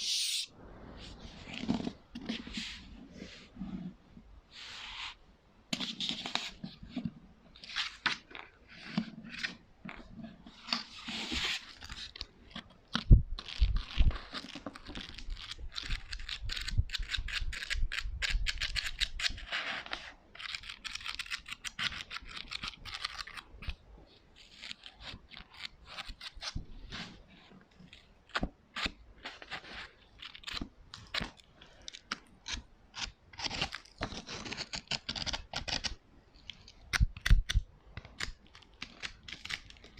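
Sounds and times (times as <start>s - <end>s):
scratching and crinkling: 1.0s - 4.2s, 5.7s - 39.9s.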